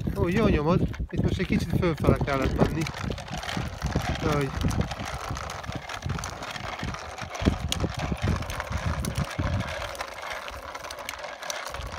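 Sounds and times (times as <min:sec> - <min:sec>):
bicycle wheels crunching on gravel: 0:00.0 - 0:11.9.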